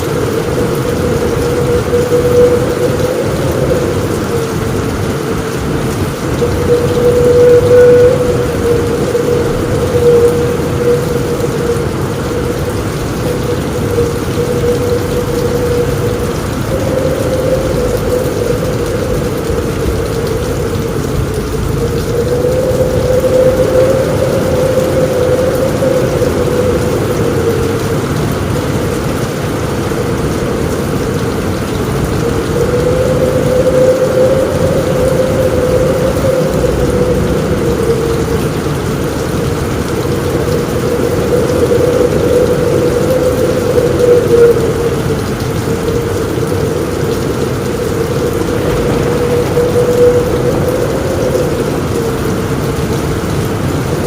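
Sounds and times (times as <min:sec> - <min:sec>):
heavy rain on a roof: 0:00.0 - 0:54.0
low rumbling thunder: 0:00.0 - 0:54.0.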